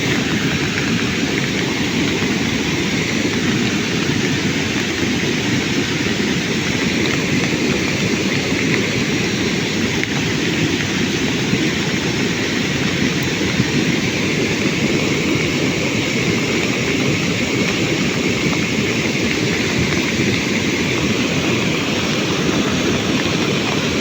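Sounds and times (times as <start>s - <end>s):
heavy rain and floodwater rushing: 0.0s - 24.0s.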